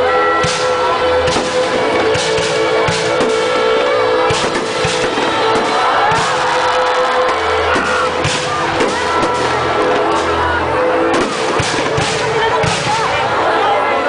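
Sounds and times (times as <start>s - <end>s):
fireworks bangs: 0.0s - 13.4s
music with heavy bass: 0.0s - 13.4s.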